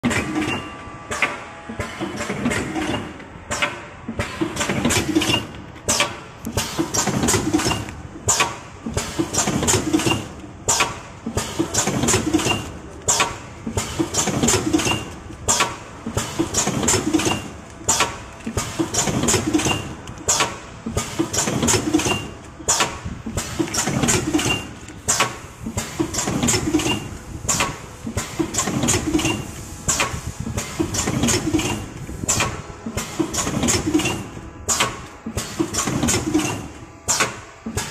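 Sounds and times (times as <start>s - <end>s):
packing machine running: 0.0s - 37.9s
pneumatic cylinder clacking: 0.0s - 37.9s.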